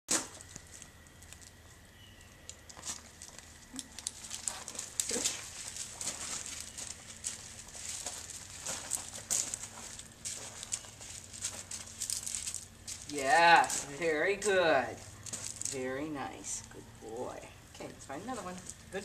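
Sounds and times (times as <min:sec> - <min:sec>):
footsteps crunching on gravel: 0:00.1 - 0:15.9.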